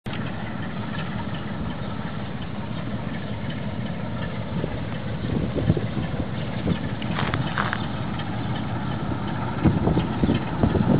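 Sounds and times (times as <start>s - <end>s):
locomotive diesel engine rumbling: 0.0s - 10.9s.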